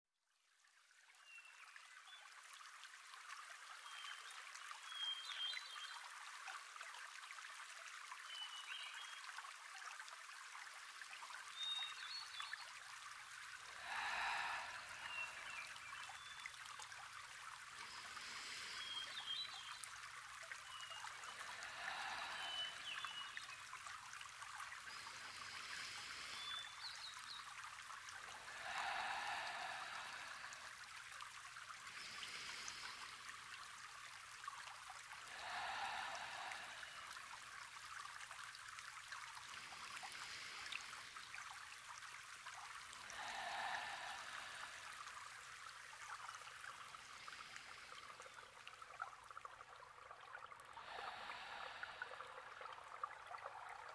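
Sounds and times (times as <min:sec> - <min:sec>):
water trickling: 0:00.3 - 0:53.9.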